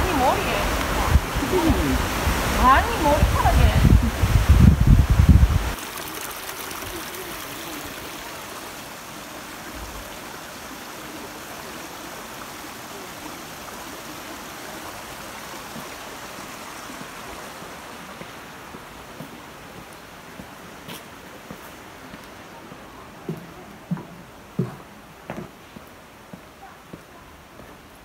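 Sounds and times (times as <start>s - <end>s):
stream water running: 0.0s - 28.0s.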